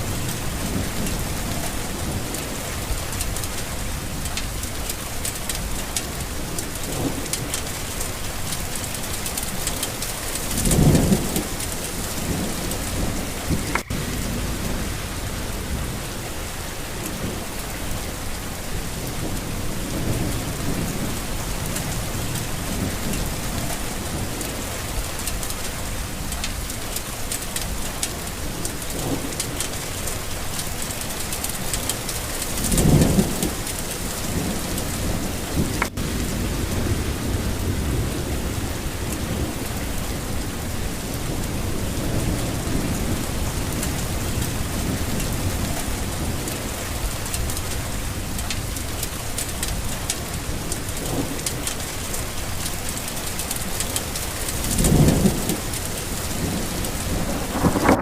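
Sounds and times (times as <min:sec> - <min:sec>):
thunder rumbling: 0:00.0 - 0:26.9, 0:27.6 - 0:58.0
heavy rain: 0:00.0 - 0:58.0.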